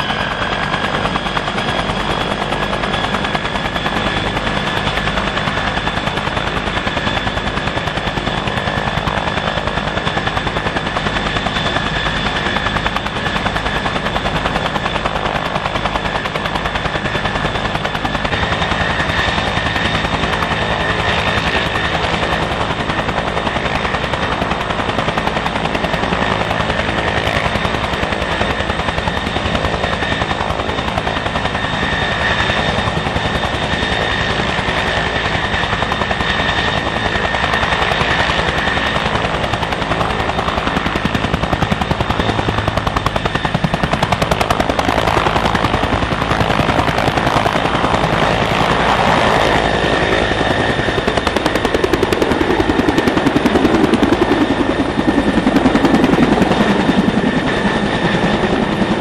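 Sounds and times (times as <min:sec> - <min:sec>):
helicopter rotor chop: 0:00.0 - 0:59.0
helicopter turbine whine: 0:00.0 - 0:59.0.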